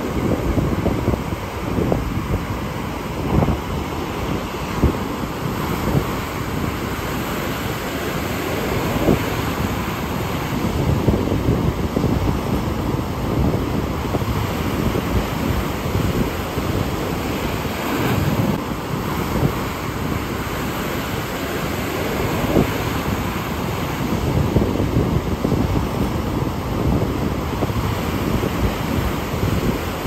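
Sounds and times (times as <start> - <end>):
surf washing over rocks: 0.0 - 30.0
wind buffeting microphone: 0.0 - 30.0.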